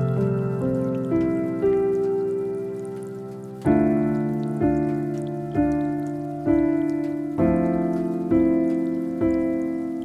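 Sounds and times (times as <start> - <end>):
faint rain pattering: 0.0 - 10.0
soft jazz piano: 0.0 - 10.0.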